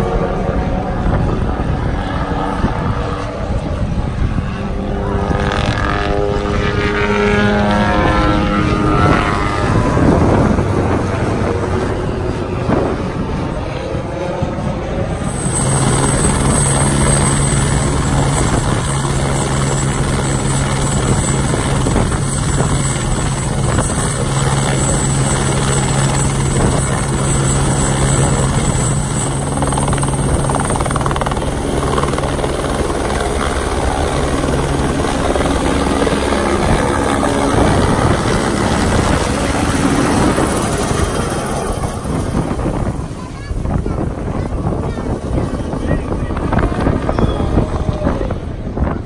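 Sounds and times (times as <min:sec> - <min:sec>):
helicopter engine low hum: 0:00.0 - 0:49.0
helicopter rotor noise: 0:00.0 - 0:49.0
turbine whine: 0:00.0 - 0:49.0.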